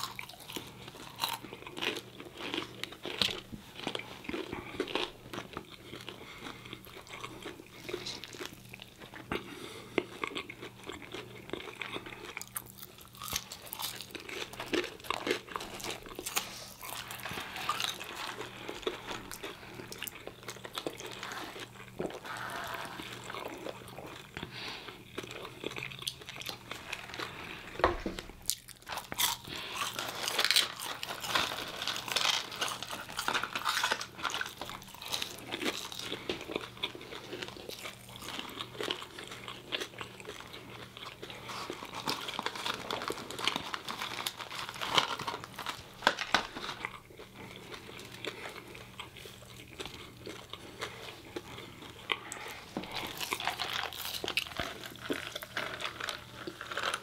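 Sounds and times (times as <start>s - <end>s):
chewing and crunching fried food: 0.0s - 57.0s.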